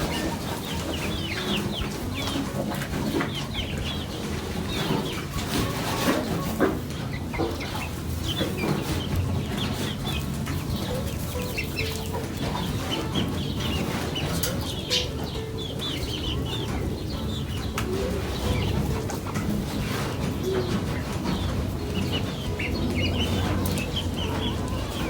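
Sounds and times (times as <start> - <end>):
chickens clucking and chirping: 0.0 - 25.0.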